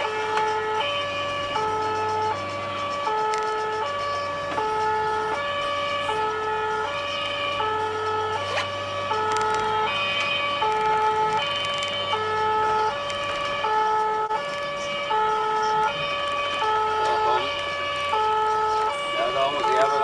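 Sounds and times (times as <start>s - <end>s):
car engine and road noise: 0.0s - 20.0s
two-tone emergency siren: 0.0s - 20.0s.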